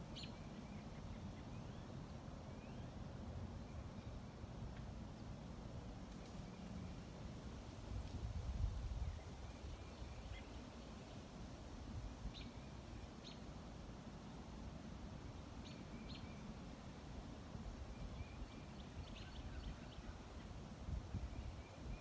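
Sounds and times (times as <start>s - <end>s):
small birds chirping faintly: 0.0s - 22.0s.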